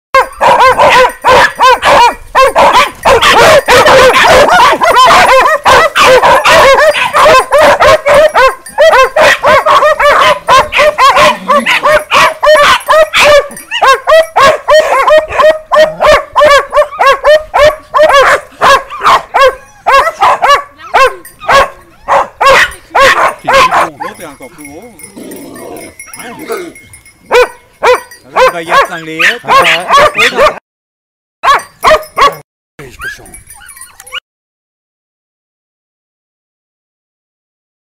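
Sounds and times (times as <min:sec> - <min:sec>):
dogs barking: 0:00.2 - 0:30.6, 0:31.4 - 0:32.4.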